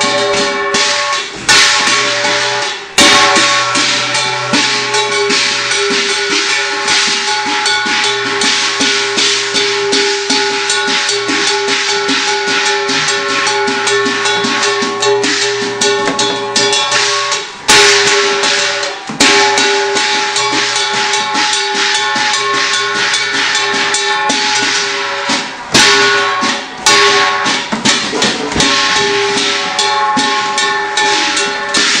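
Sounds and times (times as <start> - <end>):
cymbals: 0.0 - 32.0
drum beaten in quick strokes: 0.0 - 32.0
loud cymbal crashes: 0.0 - 32.0
ringing gong: 0.0 - 32.0.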